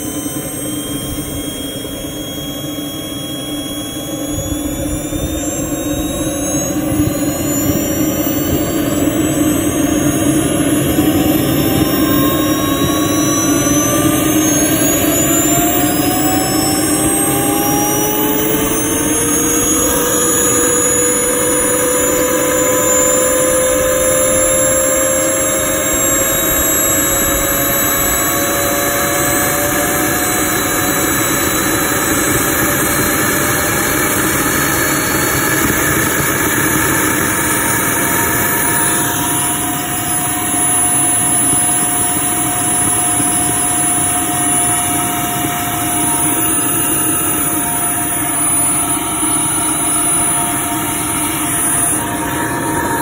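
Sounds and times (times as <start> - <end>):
turbine engine spooling up: 0.0 - 53.0.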